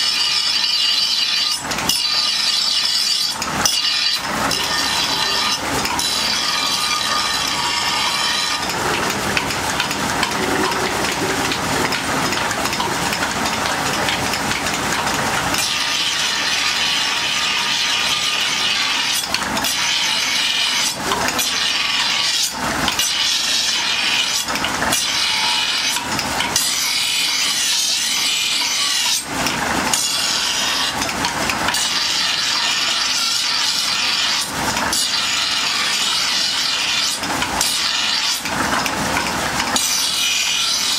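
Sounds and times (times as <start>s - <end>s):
blade on grinding wheel: 0.0s - 40.9s.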